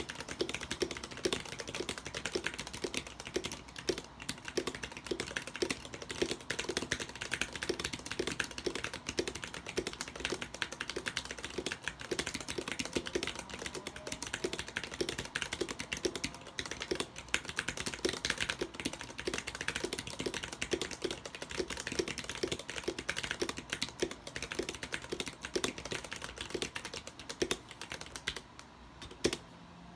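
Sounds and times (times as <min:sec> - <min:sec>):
fast typing on mechanical keyboard: 0:00.0 - 0:29.4.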